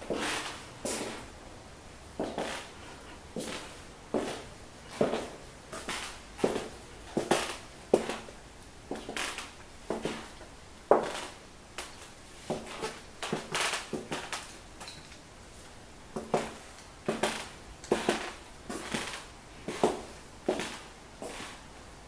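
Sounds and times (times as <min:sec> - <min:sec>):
footsteps on tile floor: 0:00.0 - 0:01.3, 0:02.2 - 0:14.4, 0:15.5 - 0:21.7.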